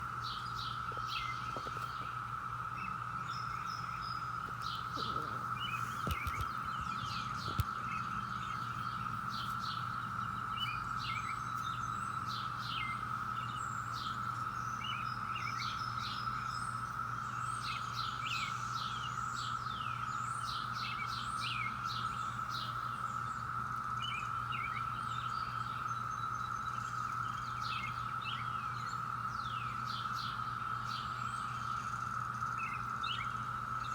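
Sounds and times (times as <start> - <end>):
cicadas droning: 0.0 - 33.9
low steady hum: 0.0 - 33.9
songbirds chirping: 0.0 - 33.9.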